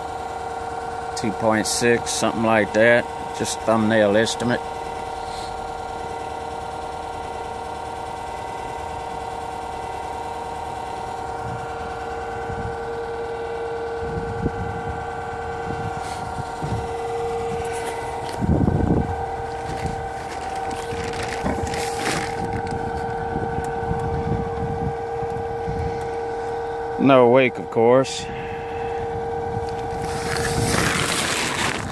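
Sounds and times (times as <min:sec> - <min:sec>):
electric motor whine: 0:00.0 - 0:31.9.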